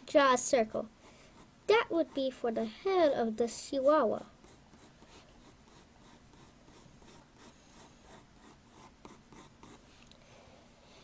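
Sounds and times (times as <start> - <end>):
pencil scratching on paper: 0.8 - 9.8.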